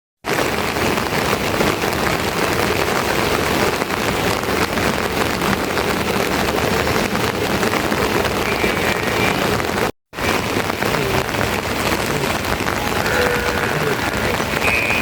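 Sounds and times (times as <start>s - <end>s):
heavy rain falling: 0.2s - 15.0s.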